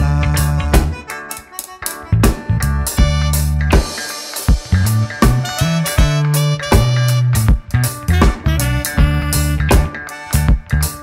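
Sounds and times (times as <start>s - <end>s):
upbeat band music: 0.0s - 11.0s.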